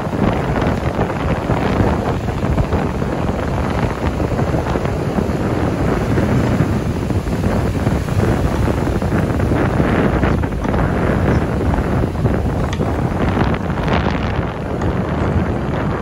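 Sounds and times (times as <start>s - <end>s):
ocean surf washing in: 0.0s - 16.0s
wind buffeting microphone: 0.0s - 16.0s.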